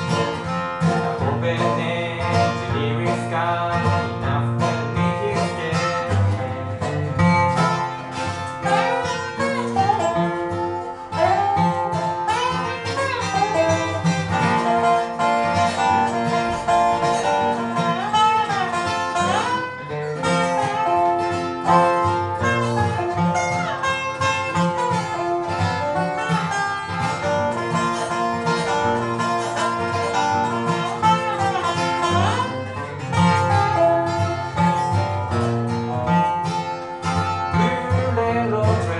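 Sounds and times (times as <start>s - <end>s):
acoustic guitar strumming: 0.0s - 38.9s
dobro sliding notes: 0.0s - 38.9s.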